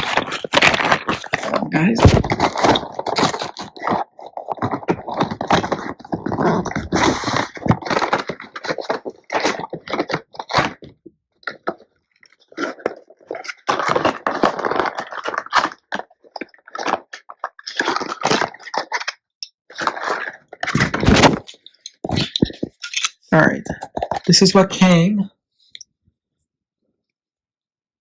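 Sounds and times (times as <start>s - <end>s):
packaging crinkling and scraping: 0.0s - 24.6s.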